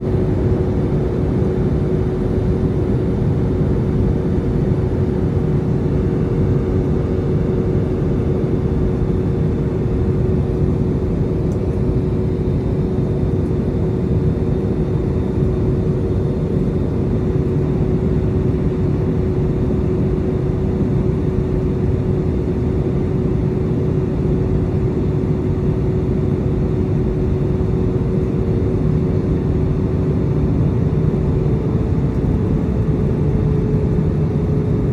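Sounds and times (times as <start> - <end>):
airplane cabin noise: 0.0 - 34.9
constant humming tone: 0.0 - 34.9.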